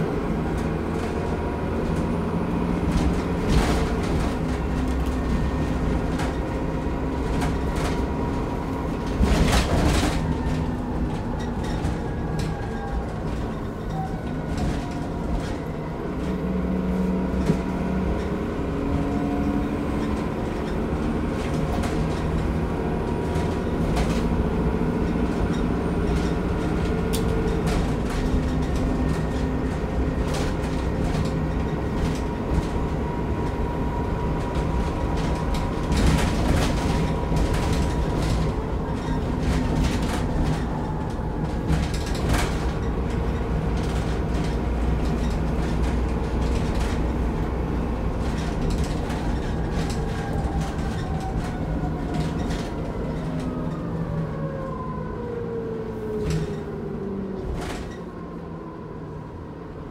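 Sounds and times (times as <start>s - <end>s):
rattles and knocks from bus body: 0.0s - 55.3s, 55.9s - 58.5s
bus engine rumble: 0.0s - 59.9s.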